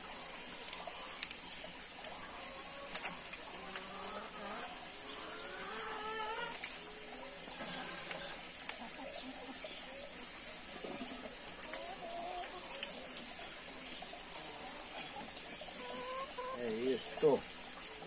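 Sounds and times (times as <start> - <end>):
water running and trickling: 0.0 - 18.0
birds calling: 2.0 - 18.0.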